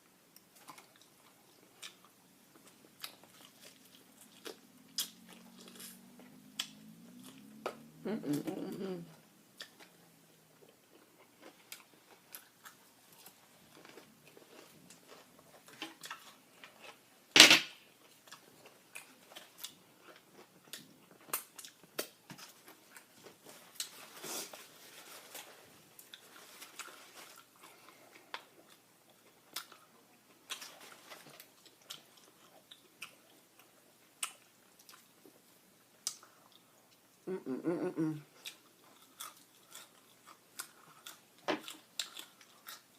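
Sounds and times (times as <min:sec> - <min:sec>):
chewing and crunching fried chicken: 0:00.2 - 0:17.2, 0:17.9 - 0:42.9.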